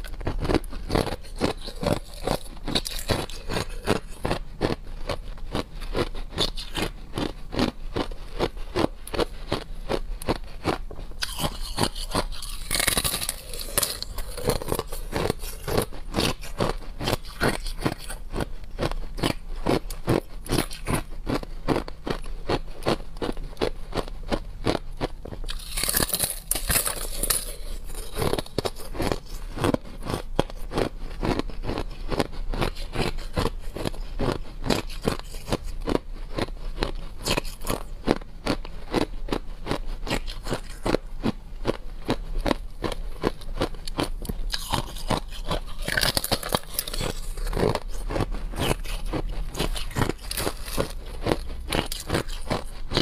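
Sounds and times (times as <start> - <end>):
ice being chewed crunching: 0.0 - 53.0.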